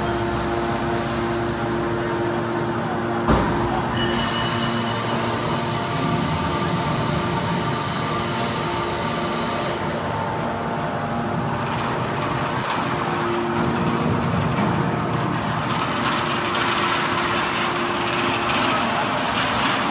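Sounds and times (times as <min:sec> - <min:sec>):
hydraulic machine hum: 0:00.0 - 0:19.9.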